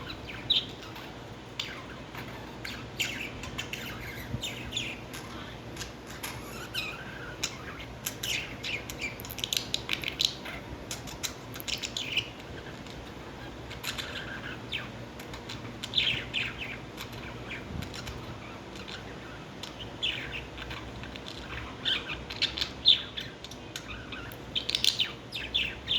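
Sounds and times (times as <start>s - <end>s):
lovebirds chirping and chattering: 0.0s - 25.9s.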